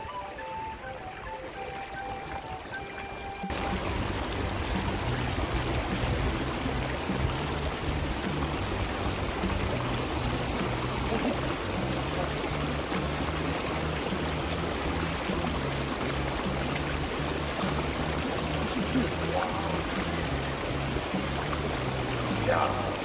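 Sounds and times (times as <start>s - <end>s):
river water rushing: 0.0s - 23.0s
background music with bass line: 2.8s - 23.0s.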